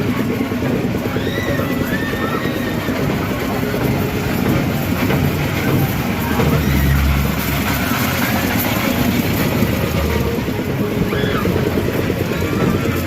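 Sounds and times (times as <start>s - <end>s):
faint voices: 0.0s - 13.0s
low engine hum: 0.0s - 13.0s.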